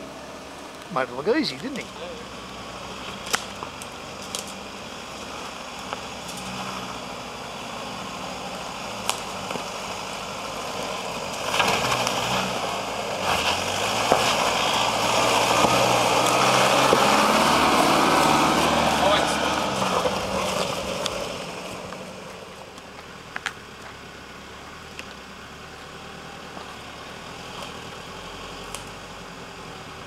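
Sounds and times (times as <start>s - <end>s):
tyres on rocky track: 0.0s - 30.0s
vehicle engine hum: 0.0s - 30.0s.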